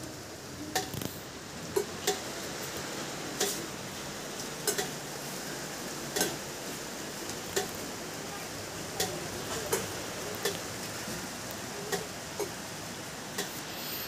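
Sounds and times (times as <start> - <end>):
water dripping into metal pots: 0.0 - 13.5
rain hissing: 0.0 - 14.0.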